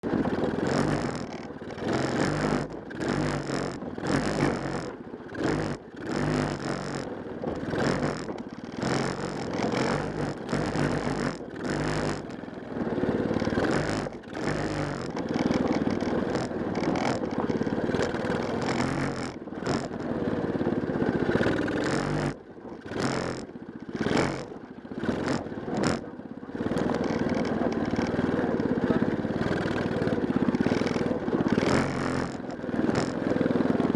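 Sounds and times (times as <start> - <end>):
small engine revving: 0.0 - 33.9.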